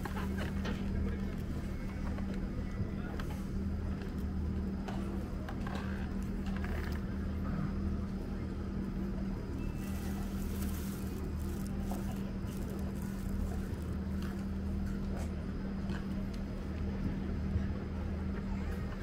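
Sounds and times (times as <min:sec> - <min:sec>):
faint crowd voices: 0:00.0 - 0:19.0
low engine hum: 0:00.0 - 0:19.0.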